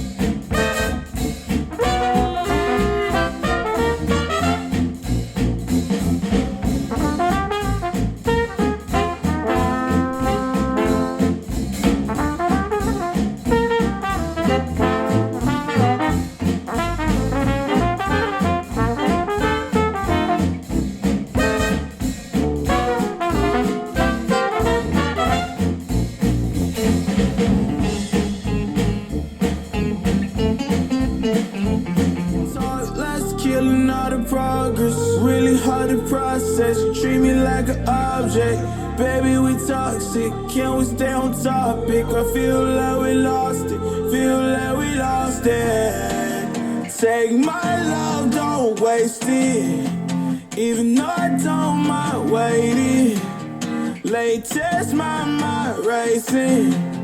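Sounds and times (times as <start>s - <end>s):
jazzy brass music over drums: 0.0s - 53.4s.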